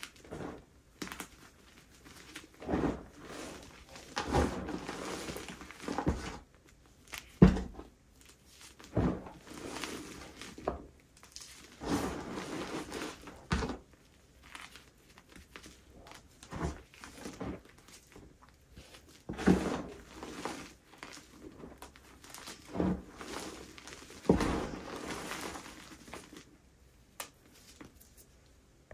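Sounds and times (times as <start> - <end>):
chalk crunching and crumbling: 0.0 - 26.6, 27.2 - 28.4.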